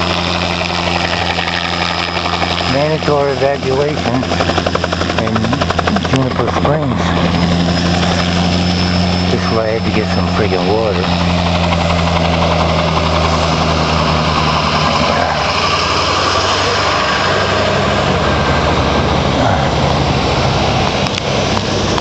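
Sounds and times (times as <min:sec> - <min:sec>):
low engine hum: 0:00.0 - 0:22.0.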